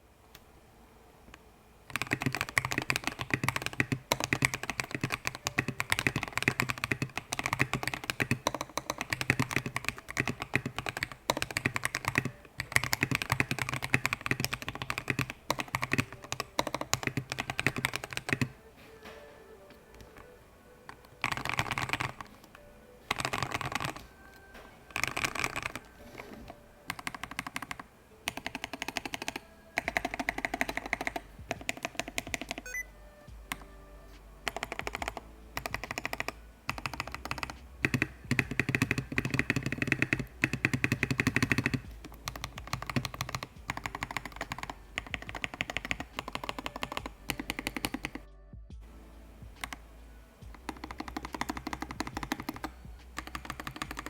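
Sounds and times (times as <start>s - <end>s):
mechanical keyboard typing: 1.9s - 32.8s, 34.4s - 48.3s, 49.5s - 54.0s.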